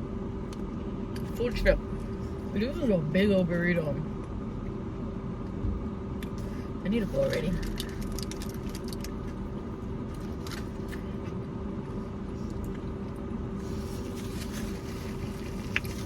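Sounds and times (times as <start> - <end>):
vehicle hum from inside: 0.0 - 16.0.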